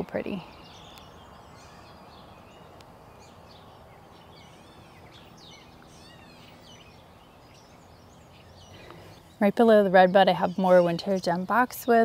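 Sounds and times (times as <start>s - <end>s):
outdoor background hiss: 0.0s - 12.0s
songbirds chirping and whistling: 0.0s - 12.0s.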